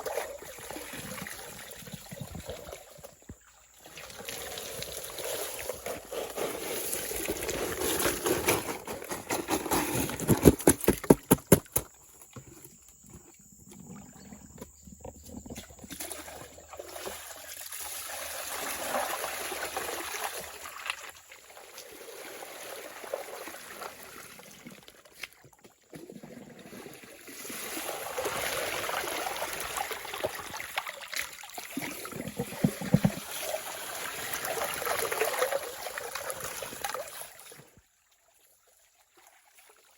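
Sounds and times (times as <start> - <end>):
water trickling and splashing: 0.0 - 8.6, 13.8 - 39.9.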